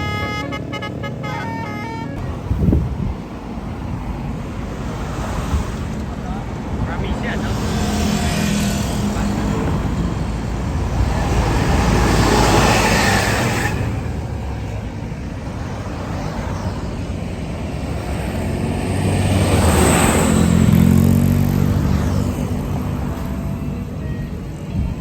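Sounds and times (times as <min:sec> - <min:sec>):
bus engines passing by: 0:00.0 - 0:25.0.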